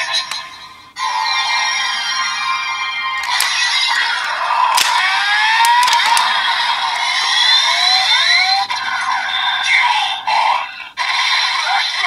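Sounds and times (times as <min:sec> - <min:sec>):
toy belt electronic sound effects: 0:00.0 - 0:10.4.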